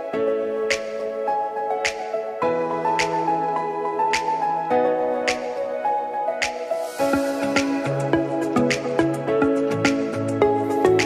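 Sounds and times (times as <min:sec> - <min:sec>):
gentle music with held chords: 0:00.0 - 0:11.0.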